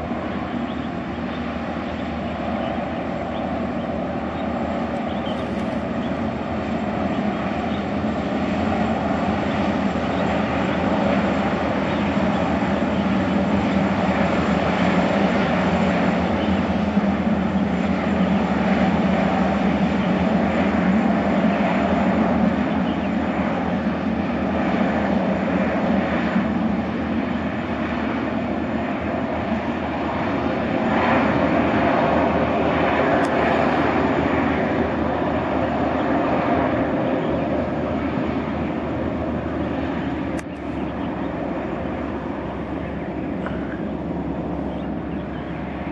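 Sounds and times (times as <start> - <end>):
gas turbines whining: 0.0 - 45.9.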